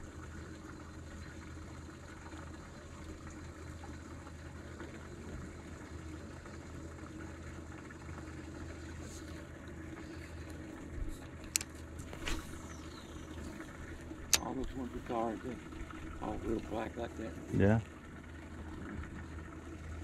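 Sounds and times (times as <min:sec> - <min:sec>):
low steady hum: 0:00.0 - 0:20.0
water lapping against a hull: 0:00.0 - 0:20.0.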